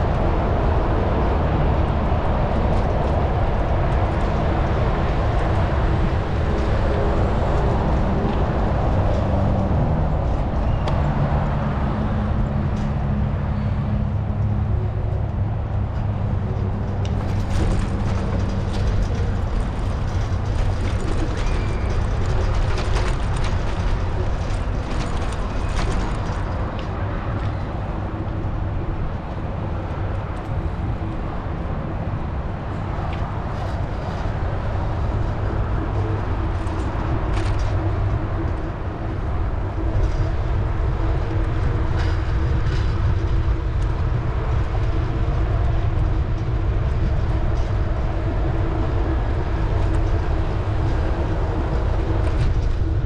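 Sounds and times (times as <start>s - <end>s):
road traffic hum: 0.0s - 53.0s.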